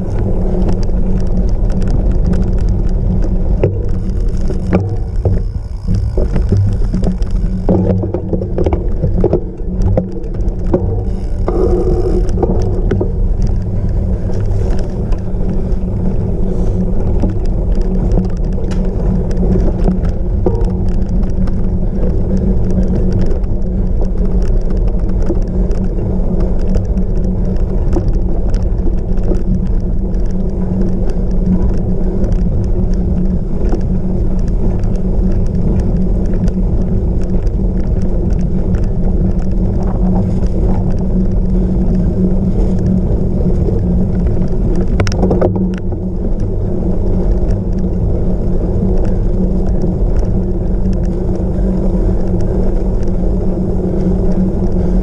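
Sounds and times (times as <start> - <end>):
bike rattling clicks: 0.0 - 55.0
wind and tyres rumbling: 0.0 - 55.0.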